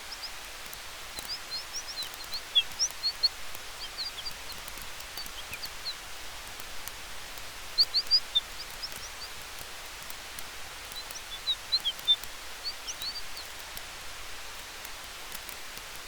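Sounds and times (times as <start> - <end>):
faint fire crackles: 0.0 - 16.0.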